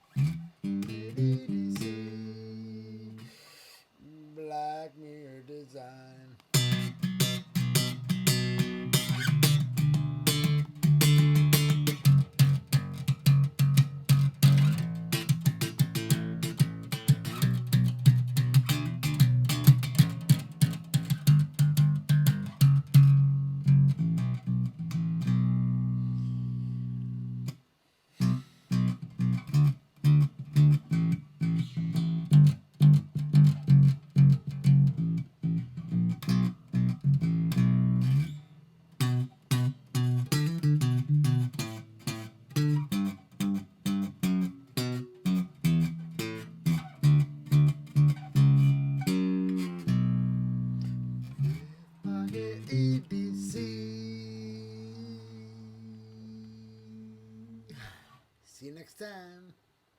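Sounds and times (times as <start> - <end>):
plucked guitar over bass line: 0.1 - 3.2, 6.5 - 27.6, 28.2 - 38.4, 39.0 - 57.5.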